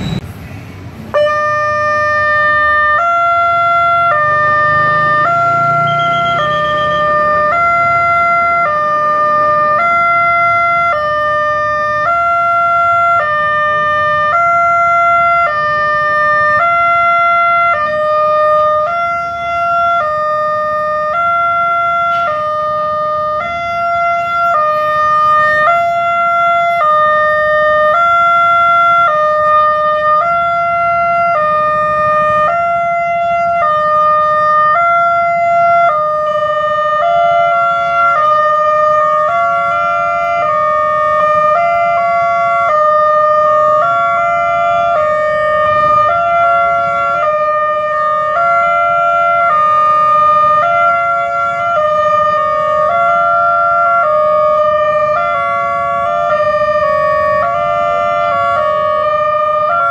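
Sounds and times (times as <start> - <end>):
level crossing two-tone alarm: 1.2 - 59.9.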